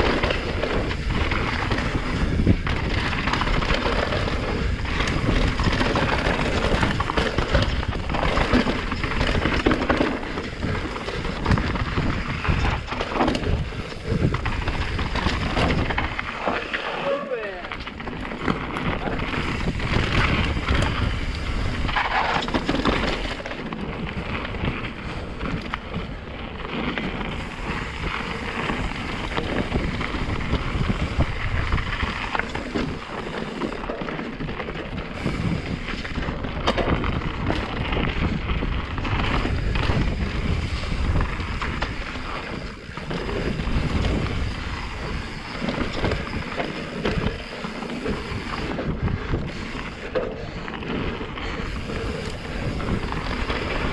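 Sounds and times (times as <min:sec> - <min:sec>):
bike rattling and knocking: 0:00.0 - 0:53.9
tyres rolling over rock and dirt: 0:00.0 - 0:53.9
wind rushing over microphone: 0:00.0 - 0:53.9.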